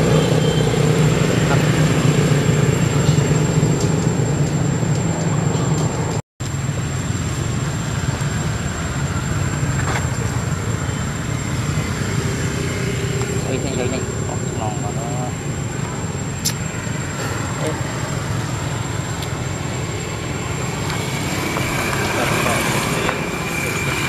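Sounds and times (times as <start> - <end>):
low rumble of road traffic: 0.0 - 24.0.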